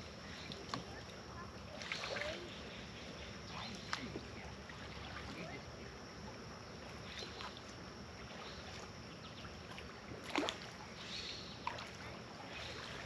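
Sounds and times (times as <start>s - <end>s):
water rushing at creek edge: 0.0s - 13.0s.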